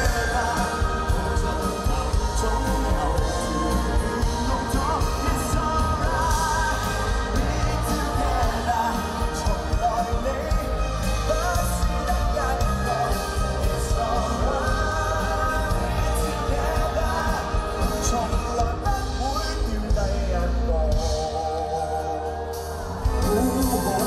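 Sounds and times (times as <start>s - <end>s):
man singing: 0.0s - 24.0s
rock band with orchestra: 0.0s - 24.0s.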